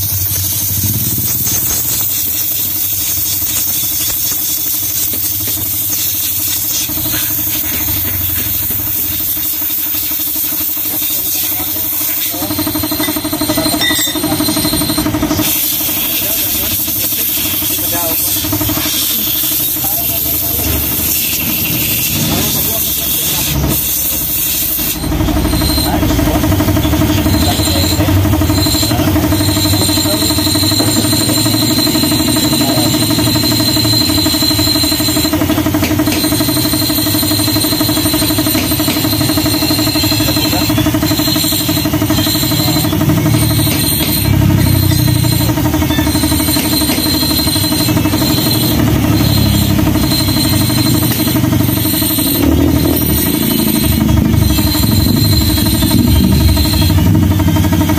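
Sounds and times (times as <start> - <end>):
motor running steadily: 0.0 - 57.9.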